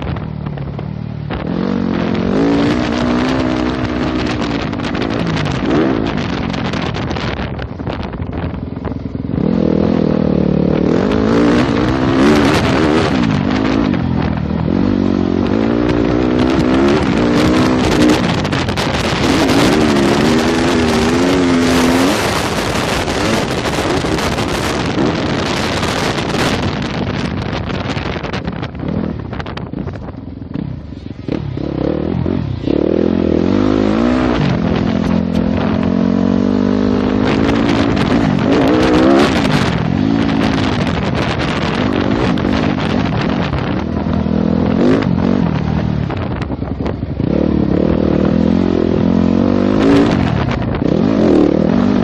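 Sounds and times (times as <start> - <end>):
motocross bike engine revving: 1.3 - 7.4, 9.3 - 29.4, 30.5 - 52.0
loud rushing noise: 1.3 - 52.0.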